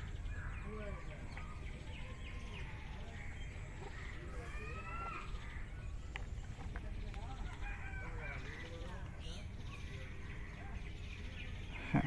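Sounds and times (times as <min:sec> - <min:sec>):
faint bird calls: 0:00.0 - 0:12.0.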